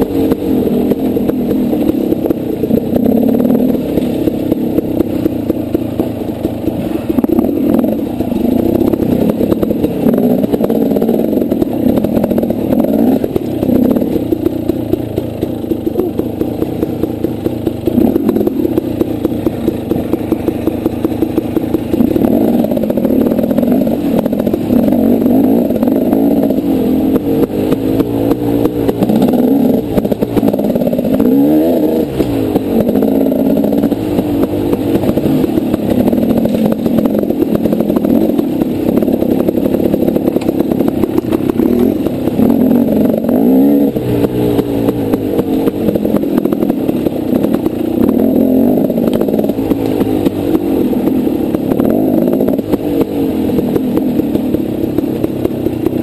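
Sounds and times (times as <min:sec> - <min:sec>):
bike knocks and rattles: 0:00.0 - 0:56.0
dirt bike engine revving: 0:00.0 - 0:56.0.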